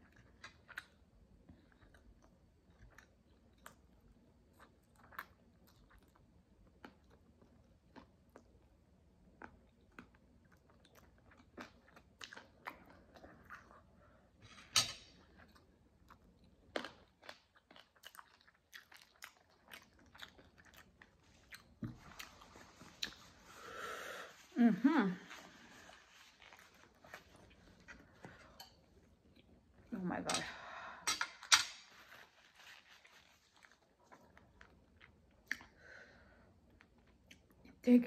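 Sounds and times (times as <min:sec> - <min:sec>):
wet chewing sounds: 0:00.0 - 0:14.1, 0:15.2 - 0:23.7, 0:25.3 - 0:29.9, 0:32.6 - 0:35.9, 0:36.5 - 0:37.8.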